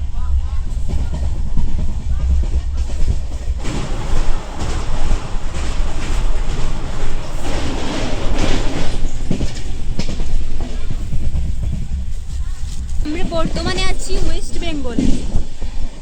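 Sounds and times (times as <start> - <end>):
sharp clicks of train: 0.0 - 16.0
train low rumble: 0.0 - 16.0
train rushing noise: 0.0 - 16.0.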